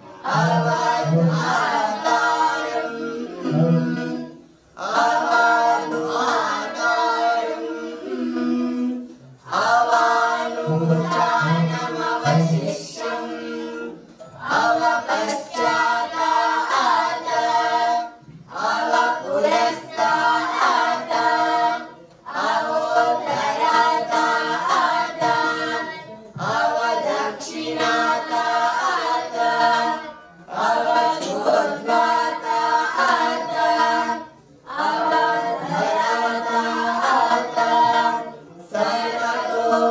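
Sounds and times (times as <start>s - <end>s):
group singing in unison: 0.0s - 39.9s.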